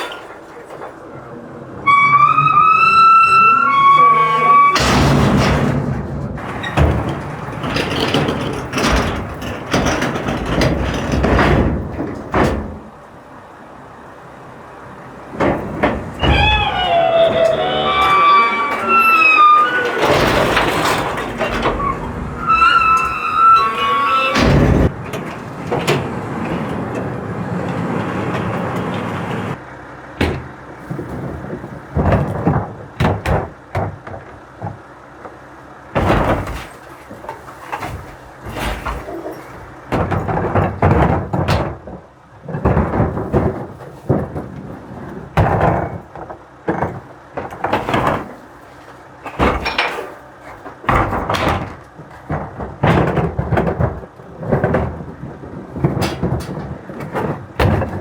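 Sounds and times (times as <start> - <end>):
garbage truck running: 0.0 - 58.0
metal bangs and clanks: 1.9 - 13.2, 14.8 - 34.9, 35.8 - 58.0.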